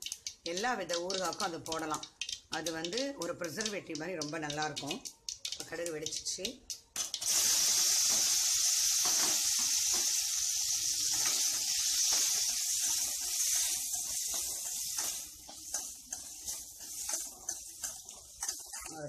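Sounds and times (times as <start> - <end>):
vegetable pieces sizzling in hot oil: 0.0 - 19.0.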